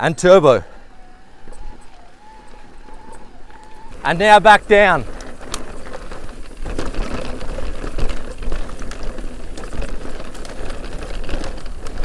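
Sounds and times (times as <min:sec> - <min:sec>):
tyres rumbling on dirt: 0:00.0 - 0:12.0
mountain bike rattling and clattering: 0:00.2 - 0:12.0.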